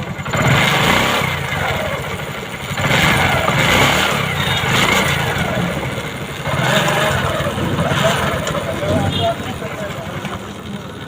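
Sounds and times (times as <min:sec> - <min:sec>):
moped engine revving: 0:00.0 - 0:11.0.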